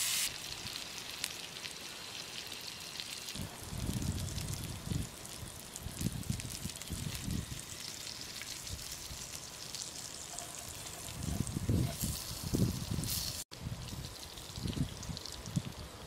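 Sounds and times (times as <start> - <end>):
meat sizzling on a hot pan: 0.0 - 14.9
rustling in grass and leaves: 0.0 - 14.9.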